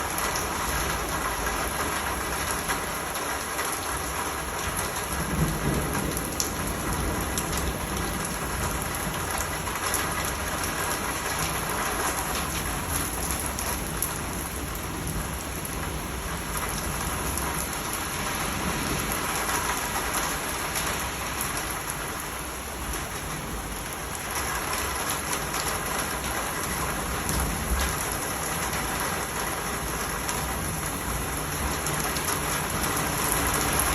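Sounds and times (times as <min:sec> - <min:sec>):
rain pattering: 0:00.0 - 0:33.9.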